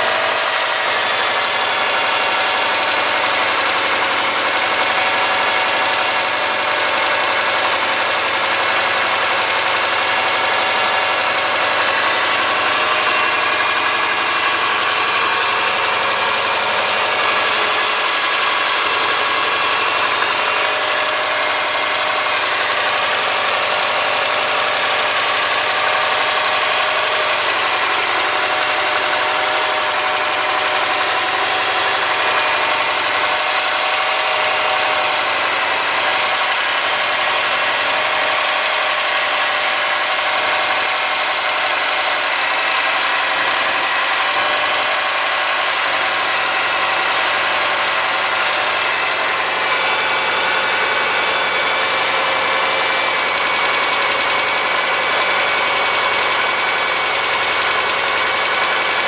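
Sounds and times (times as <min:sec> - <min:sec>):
car engine idling: 0:00.0 - 0:59.0
engine ticking: 0:00.0 - 0:59.0.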